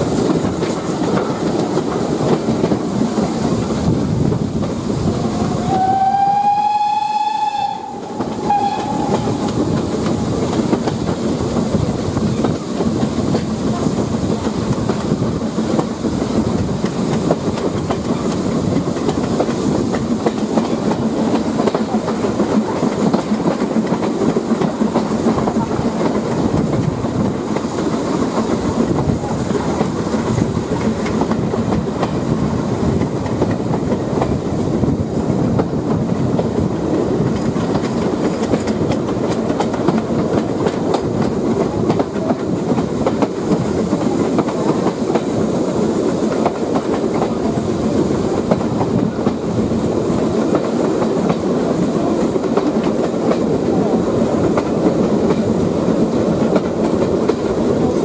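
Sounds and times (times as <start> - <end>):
train wheels rumbling on rails: 0.0 - 58.0
wheels clicking over rail joints: 7.7 - 58.0.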